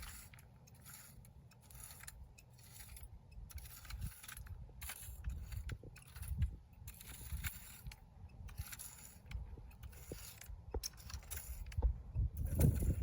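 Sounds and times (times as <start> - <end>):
garden tool scraping soil: 0.0 - 13.0.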